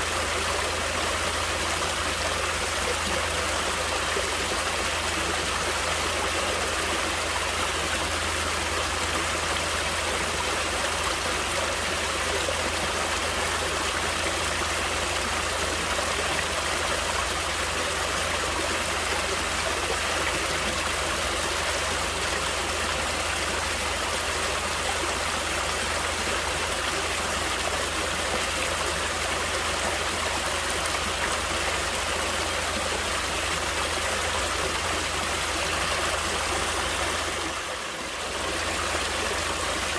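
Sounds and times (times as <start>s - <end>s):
stream flowing and splashing: 0.0s - 39.9s.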